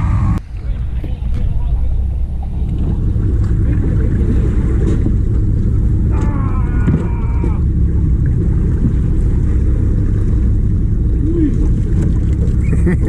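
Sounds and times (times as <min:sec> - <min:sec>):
boat engine low drone: 0:00.0 - 0:13.0.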